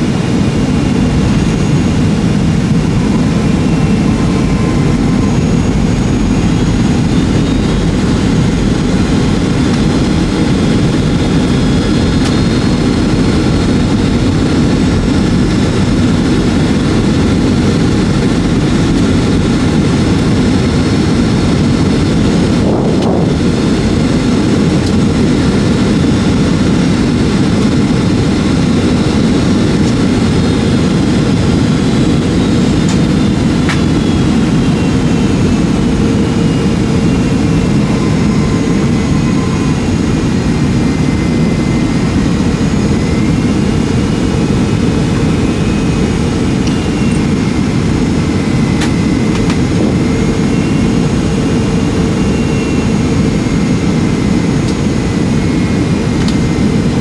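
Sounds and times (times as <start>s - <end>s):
faint engine whine: 0.0s - 57.0s
jet engine rumble inside cabin: 0.0s - 57.0s.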